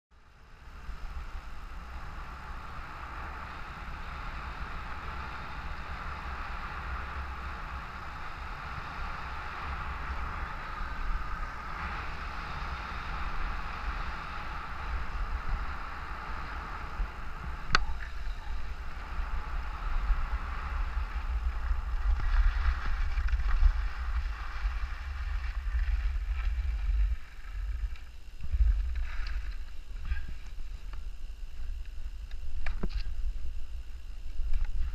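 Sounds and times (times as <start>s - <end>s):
wind rumble on microphone: 0.2s - 34.9s
skis scraping over snow: 0.7s - 33.6s.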